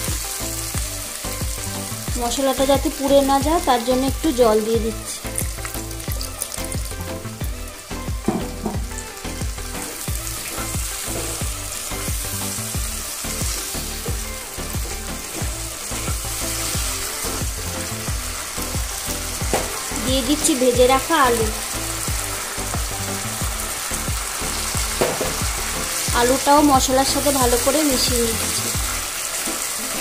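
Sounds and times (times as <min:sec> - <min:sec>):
masala sizzling in a pan: 0:00.0 - 0:30.0
soft background music: 0:00.0 - 0:30.0.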